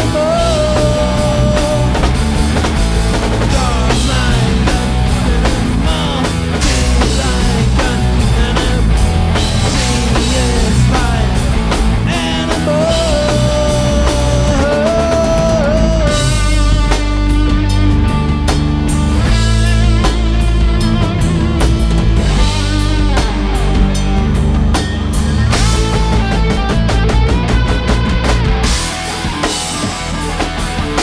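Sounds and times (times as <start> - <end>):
bending guitar melody: 0.0 - 31.0
rock band playing live: 0.0 - 31.0.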